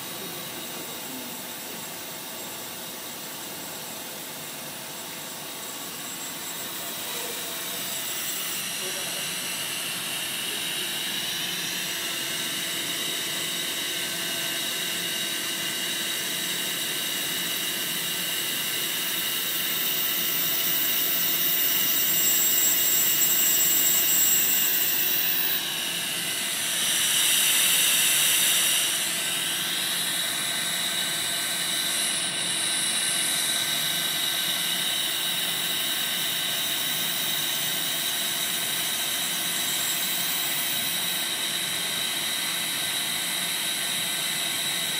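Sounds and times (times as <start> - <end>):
high machine whine: 0.0 - 44.9.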